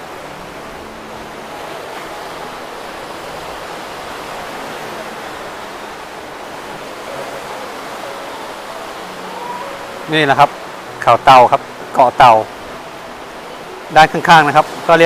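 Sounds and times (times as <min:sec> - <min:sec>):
sea surf rushing: 0:00.0 - 0:15.0
wind: 0:00.0 - 0:15.0.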